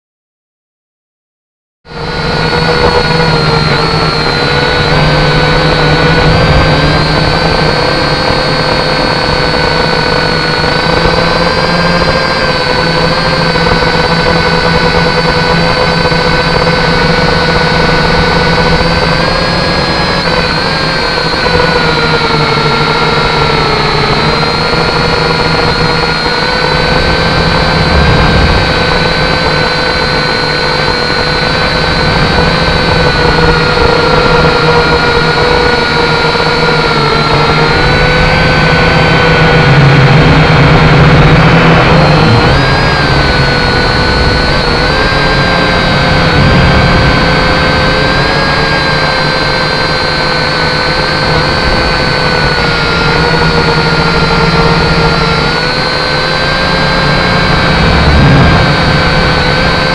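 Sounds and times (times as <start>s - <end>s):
drone motors and propellers whining: 1.8s - 59.9s.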